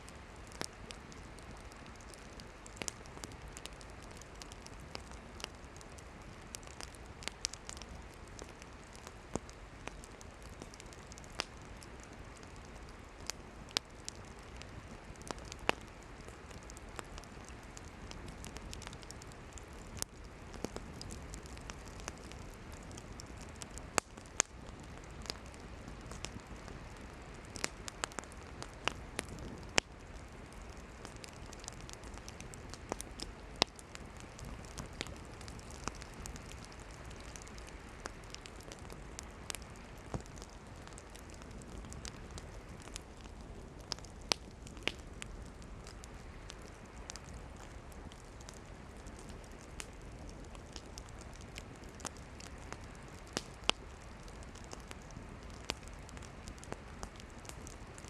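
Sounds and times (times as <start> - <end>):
campfire flame hiss: 0.0 - 58.0
firewood crackling and popping: 0.0 - 58.0.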